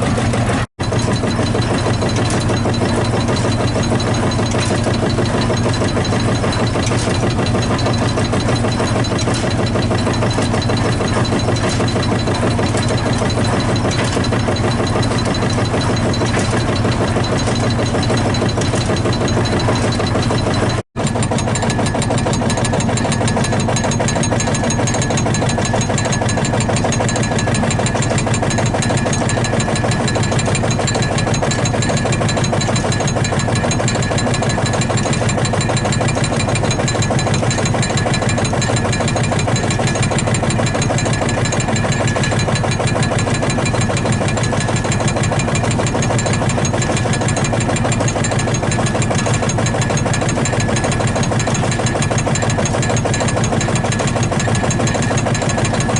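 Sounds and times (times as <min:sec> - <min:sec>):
tractor diesel engine knocking: 0:00.0 - 0:55.9.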